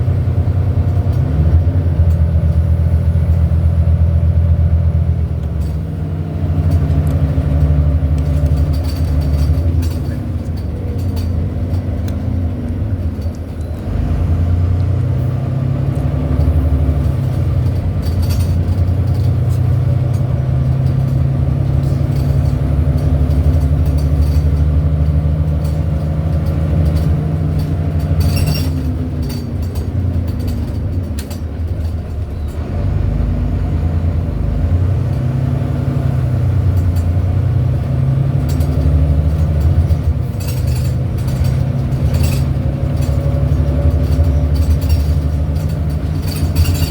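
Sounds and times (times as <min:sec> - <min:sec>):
bus engine running: 0:00.0 - 0:46.9.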